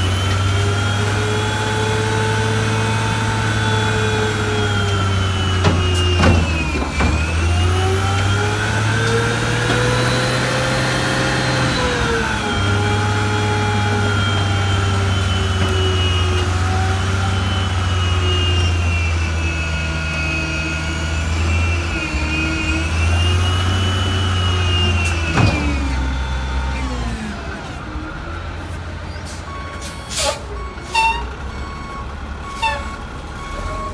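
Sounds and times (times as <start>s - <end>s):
garbage truck diesel engine revving: 0.0s - 33.9s.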